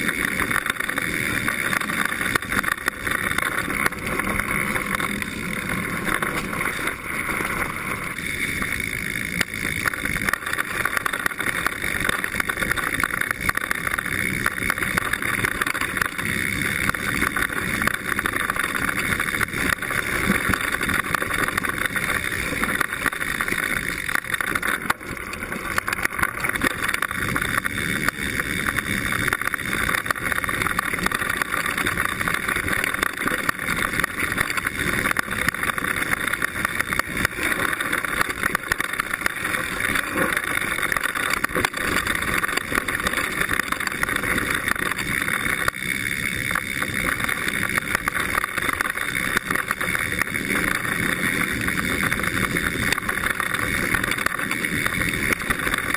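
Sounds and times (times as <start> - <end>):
bike rattling over bumps: 0.0 - 55.9
bike tyres rolling on dirt: 0.0 - 55.9.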